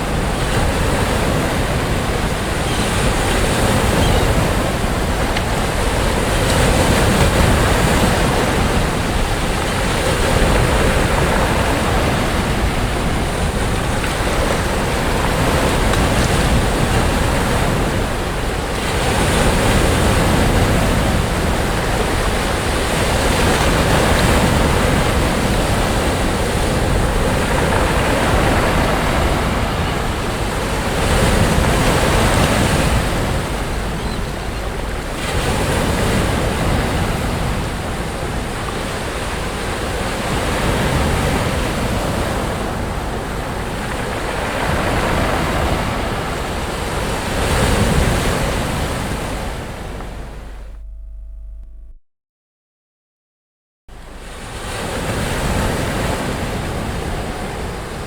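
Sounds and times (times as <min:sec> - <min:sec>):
sea waves breaking on beach: 0:00.0 - 0:50.6
wind rumble on microphone: 0:00.0 - 0:51.9.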